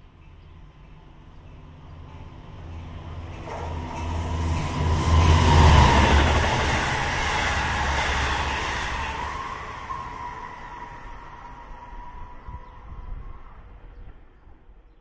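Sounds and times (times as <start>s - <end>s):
train passing with low rumble: 0.0s - 15.0s.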